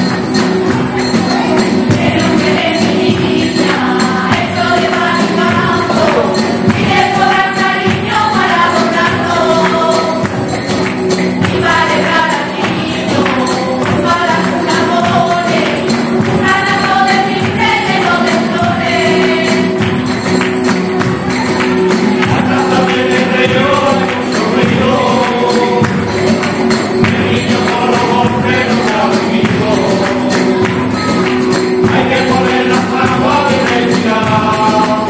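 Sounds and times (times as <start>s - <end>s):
strummed guitars: 0.0s - 35.0s
tambourine rhythm: 0.0s - 35.0s
choir singing in unison: 1.5s - 10.7s, 11.4s - 20.4s, 22.2s - 31.2s, 31.8s - 35.0s.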